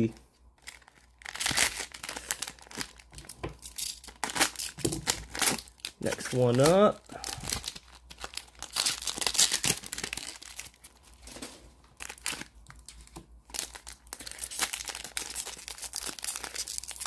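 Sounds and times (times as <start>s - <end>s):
foil wrapper crinkling: 0.6s - 17.0s.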